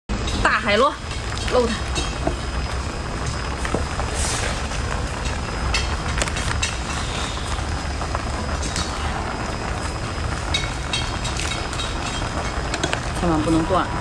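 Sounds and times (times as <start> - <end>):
steady low rumble: 0.1 - 14.0.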